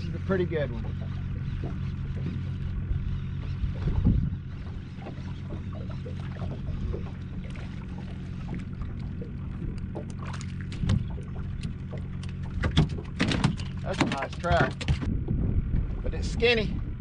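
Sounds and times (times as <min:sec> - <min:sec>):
water splashes: 0:00.0 - 0:15.1
boat motor hum: 0:00.0 - 0:17.0.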